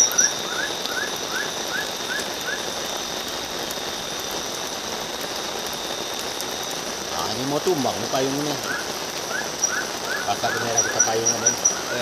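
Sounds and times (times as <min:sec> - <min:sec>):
high insect trill: 0:00.0 - 0:12.0
steady rain hiss: 0:00.0 - 0:12.0.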